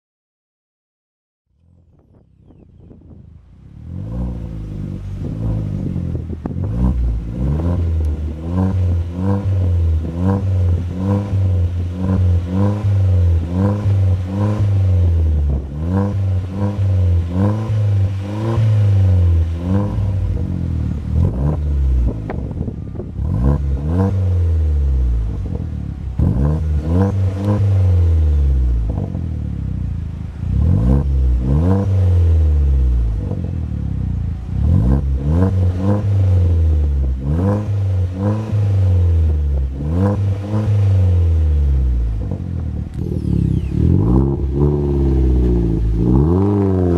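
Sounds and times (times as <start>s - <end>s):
car engine revving: 3.5s - 46.9s.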